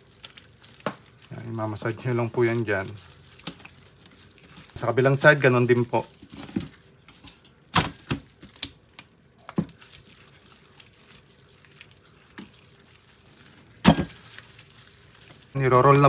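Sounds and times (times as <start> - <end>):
wet smacks of meat handled: 0.0 - 16.0.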